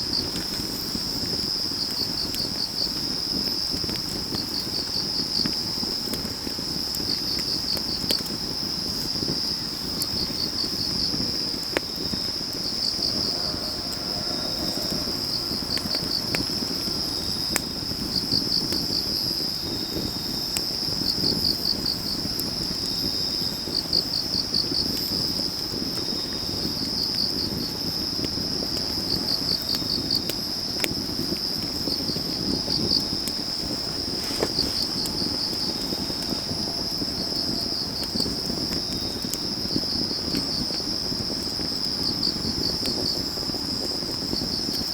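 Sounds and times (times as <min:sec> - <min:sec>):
cricket chirping: 0:00.0 - 0:44.9
insects trilling: 0:00.0 - 0:44.9
wood fire crackling and popping: 0:00.0 - 0:44.9.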